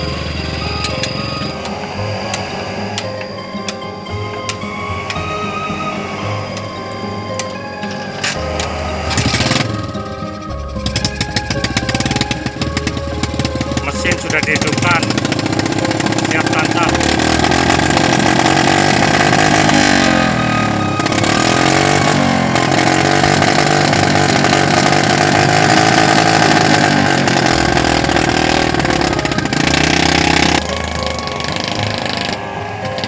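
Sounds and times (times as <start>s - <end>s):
motorcycle engine running under load: 0.0s - 33.0s.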